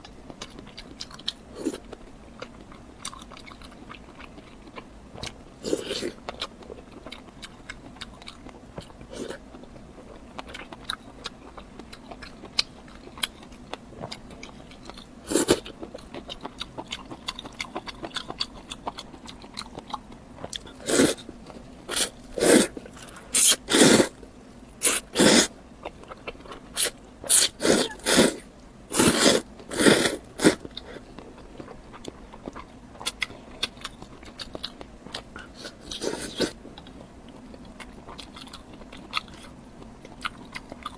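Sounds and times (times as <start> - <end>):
soft chewing: 0.0 - 40.9.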